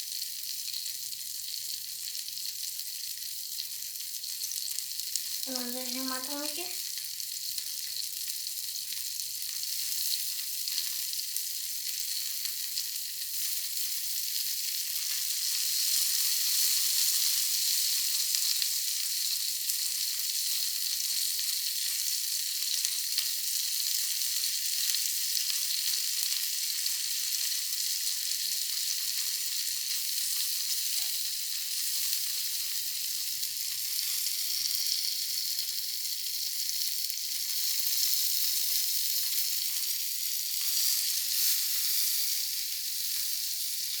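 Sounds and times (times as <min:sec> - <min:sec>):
shrimp sizzling in hot oil: 0:00.0 - 0:44.0.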